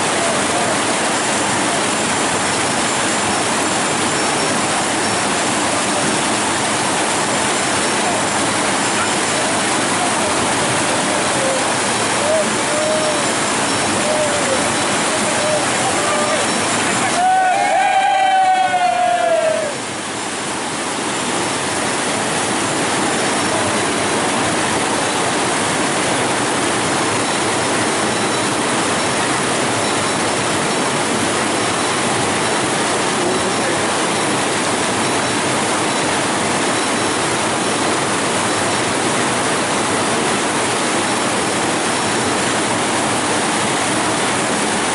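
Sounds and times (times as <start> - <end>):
river rapids roaring: 0.0 - 44.9.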